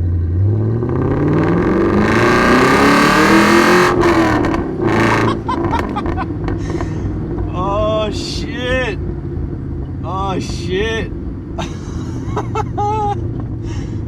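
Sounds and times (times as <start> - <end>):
car engine accelerating hard: 0.0 - 14.0
exhaust crackling and popping: 0.0 - 14.0.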